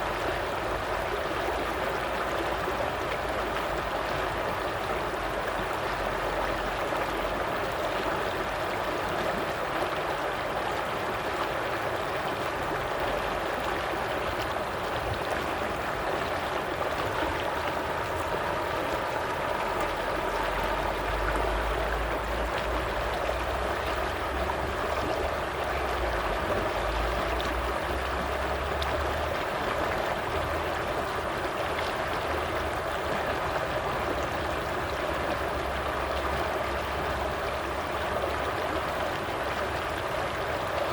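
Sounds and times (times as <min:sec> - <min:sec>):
stream water gurgling: 0:00.0 - 0:40.9.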